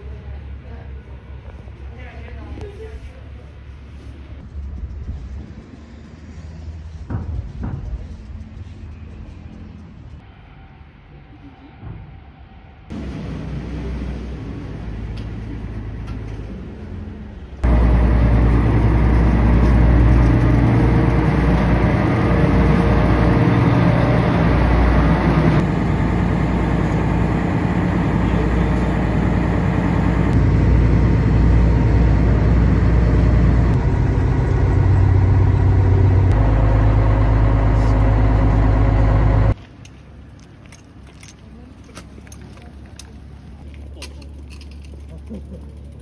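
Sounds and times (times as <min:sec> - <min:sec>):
boat engine low rumble: 0:00.0 - 0:46.0
waterfront ambience: 0:00.0 - 0:46.0.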